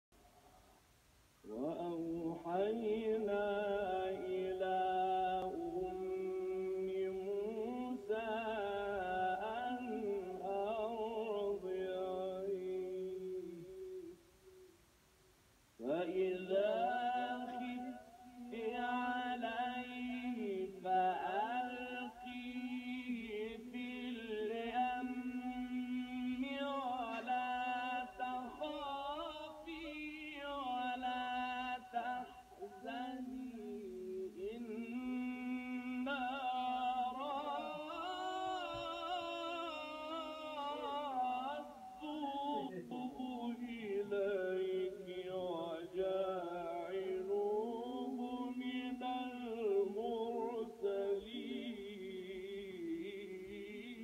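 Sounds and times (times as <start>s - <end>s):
man singing unaccompanied chant: 1.4s - 14.8s, 15.8s - 54.0s.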